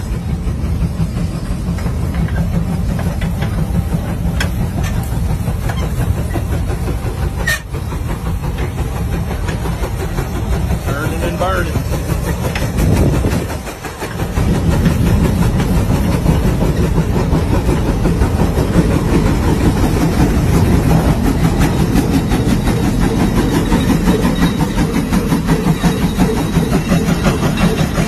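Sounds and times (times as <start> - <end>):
steam engine rhythmic beat: 0.0 - 28.0.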